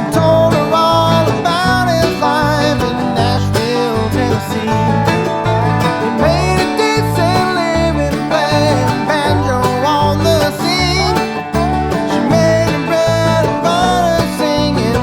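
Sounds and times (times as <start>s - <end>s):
banjo: 0.0s - 15.0s
bluegrass band music: 0.0s - 15.0s.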